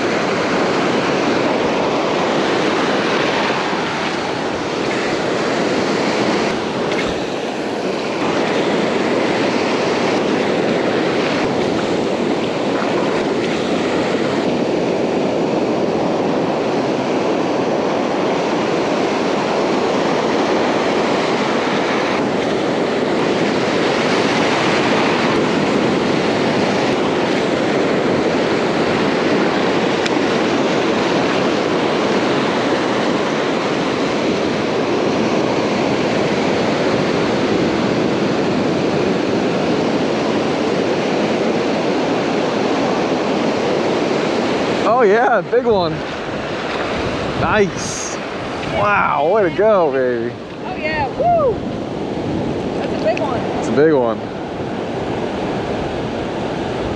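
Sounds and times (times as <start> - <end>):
ocean surf breaking: 0.0 - 56.9
wind buffeting microphone: 0.0 - 56.9.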